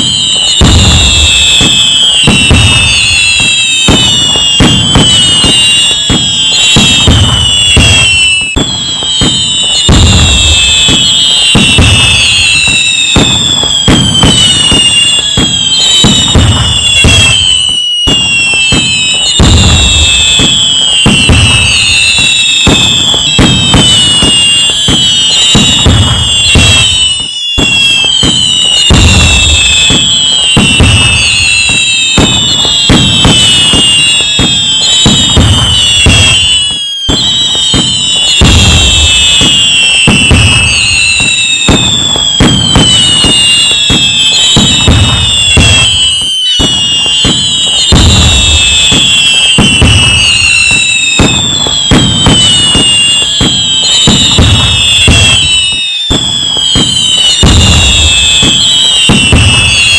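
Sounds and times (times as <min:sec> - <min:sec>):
fireworks crackling: 0:00.0 - 0:59.9
low firework booms: 0:00.0 - 0:59.9
whistling fireworks: 0:00.0 - 0:59.9.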